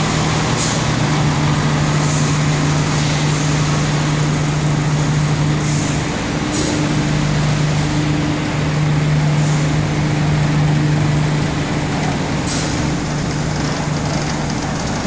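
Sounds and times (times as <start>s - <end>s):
industrial machinery droning: 0.0s - 15.0s.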